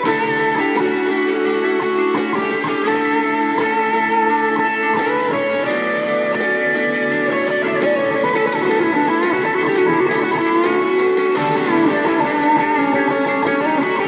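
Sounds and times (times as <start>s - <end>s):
overdriven electric guitar melody: 0.0s - 14.0s.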